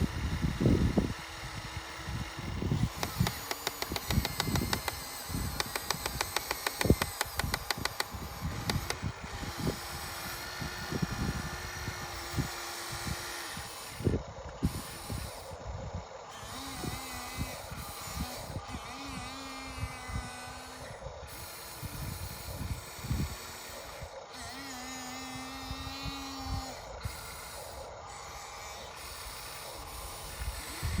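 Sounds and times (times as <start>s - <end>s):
motor and hydraulic pump whine: 0.0s - 31.0s.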